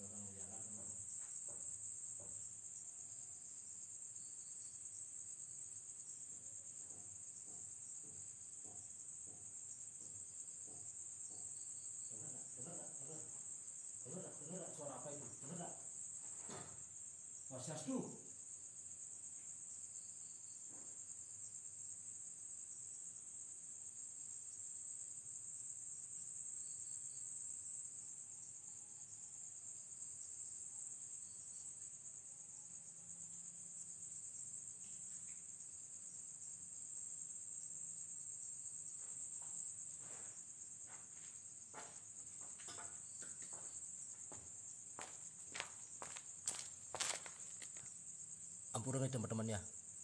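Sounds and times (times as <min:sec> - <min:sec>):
night insects chirring: 0:00.0 - 0:50.0.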